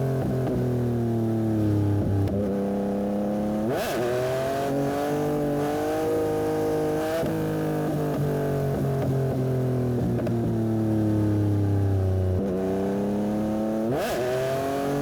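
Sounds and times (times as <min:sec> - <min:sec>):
motorcycle engine revving: 0:01.9 - 0:15.0.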